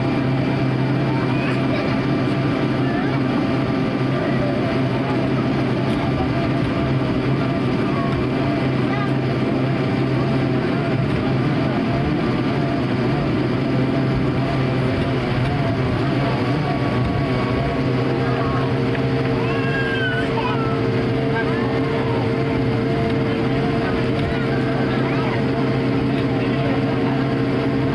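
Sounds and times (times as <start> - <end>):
jet engines at taxi power: 0.0 - 27.9.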